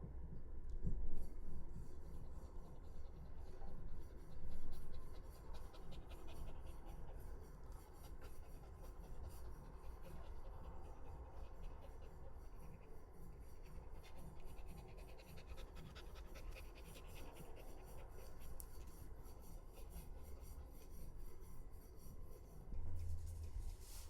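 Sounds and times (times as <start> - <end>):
dog panting quickly: 2.1 - 21.7.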